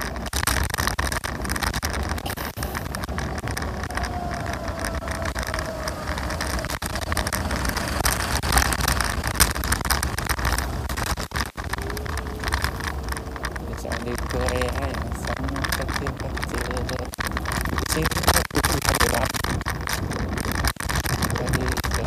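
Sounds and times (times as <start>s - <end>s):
faint whine: 0.0s - 22.0s
knocks and rattles: 0.0s - 22.0s
road rumble: 0.0s - 22.0s
wind buffeting microphone: 0.0s - 22.0s.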